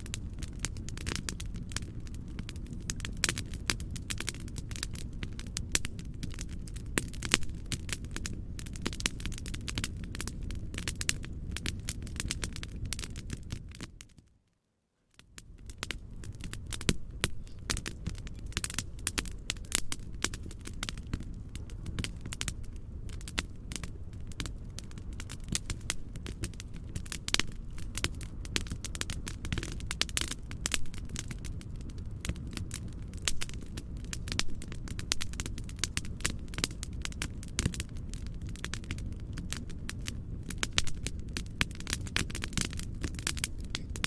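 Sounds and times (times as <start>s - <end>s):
low rumble and hiss: 0.0s - 44.0s
wood fire crackling: 0.0s - 44.0s.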